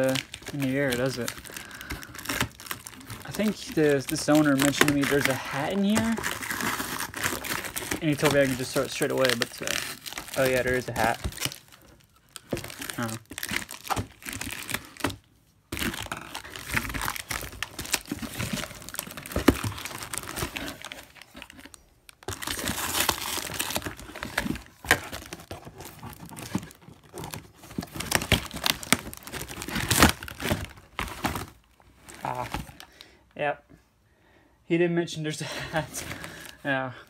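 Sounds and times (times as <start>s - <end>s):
packing tape tearing: 0.0s - 31.6s
cardboard and plastic crinkling: 0.0s - 33.0s, 35.6s - 37.0s.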